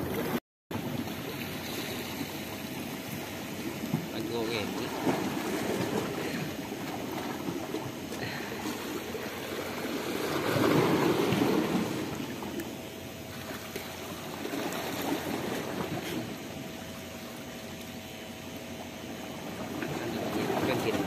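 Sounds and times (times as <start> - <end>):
waves lapping on rocky shore: 0.0 - 21.0.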